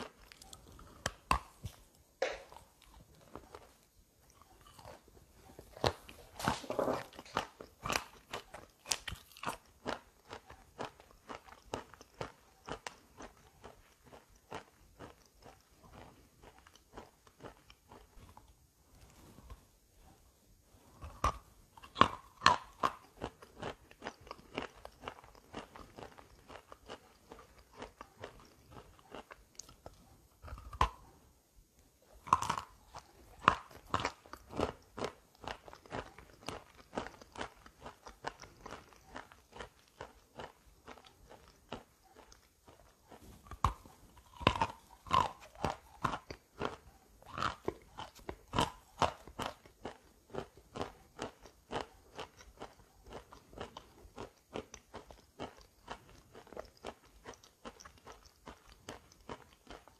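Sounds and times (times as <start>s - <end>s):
chalk being chewed crunching: 0.0s - 19.6s, 20.8s - 31.2s, 32.1s - 59.9s.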